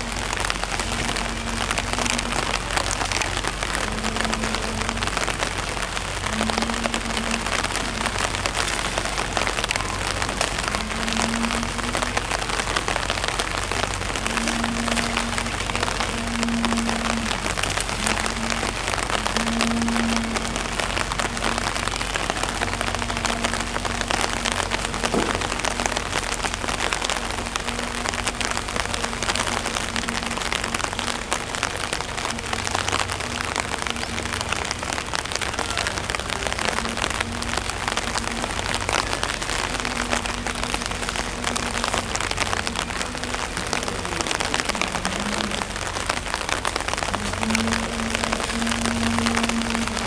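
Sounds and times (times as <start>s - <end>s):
rain pattering on hard surfaces: 0.0s - 50.0s.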